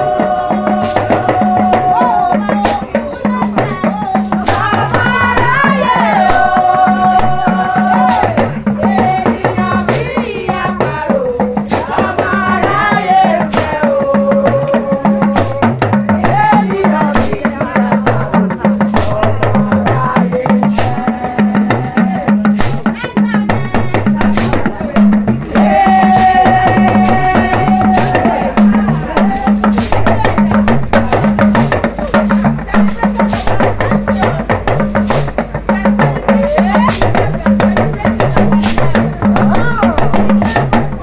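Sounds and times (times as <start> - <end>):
steady drum beat: 0.0 - 41.0
talking drum strikes: 0.0 - 41.0
voices singing: 0.0 - 41.0.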